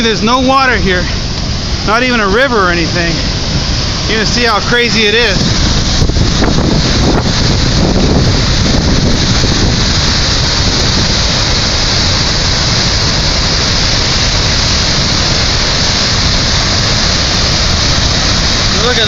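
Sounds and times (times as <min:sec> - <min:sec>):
torrent rushing over rocks: 0:00.0 - 0:19.0
wind rumble on microphone: 0:00.0 - 0:19.0.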